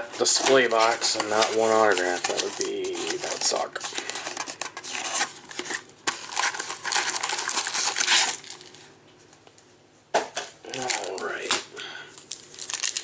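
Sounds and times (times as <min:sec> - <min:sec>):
plastic packaging crinkling and tearing: 0:00.0 - 0:08.9, 0:10.7 - 0:13.0.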